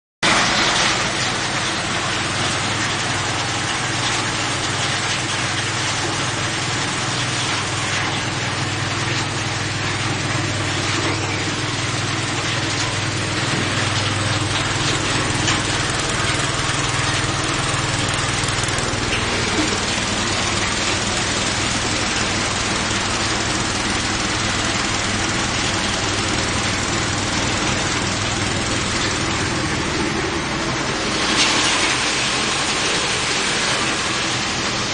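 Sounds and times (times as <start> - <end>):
machine running loudly: 0.2 - 34.9.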